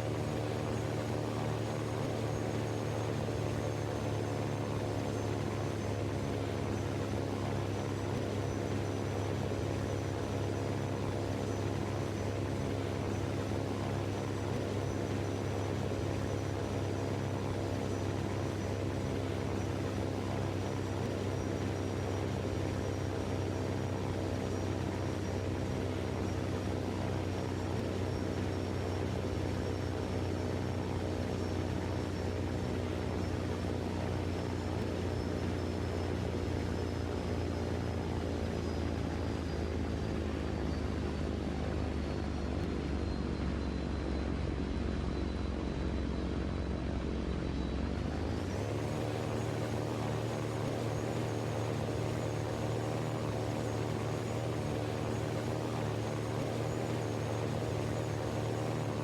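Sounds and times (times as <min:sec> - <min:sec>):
faint high whine: 0:00.0 - 0:59.0
mechanical drone: 0:00.0 - 0:59.0.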